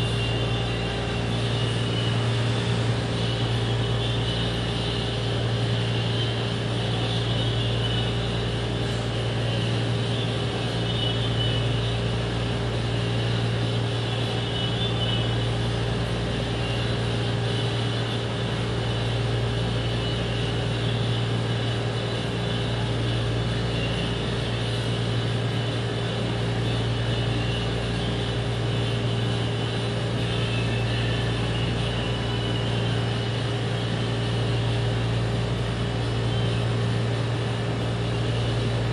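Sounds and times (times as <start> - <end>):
electric fan humming: 0.0 - 38.9.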